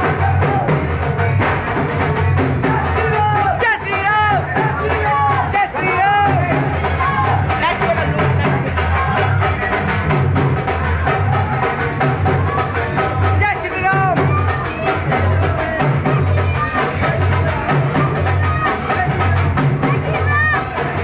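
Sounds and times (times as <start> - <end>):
deep pulsing bass: 0.0 - 21.0
fast drumming: 0.0 - 21.0.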